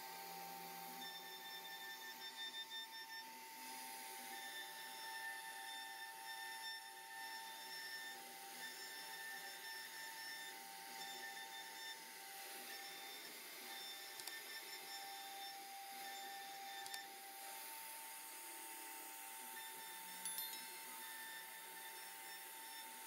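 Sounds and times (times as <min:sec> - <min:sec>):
router spindle whine: 0:00.0 - 0:23.0
higher carving tones: 0:04.2 - 0:23.0.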